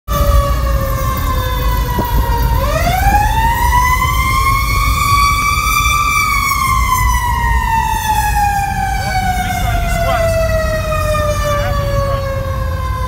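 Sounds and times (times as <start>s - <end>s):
fire engine siren wailing: 0.1s - 13.0s
truck engine rumbling: 0.1s - 13.0s.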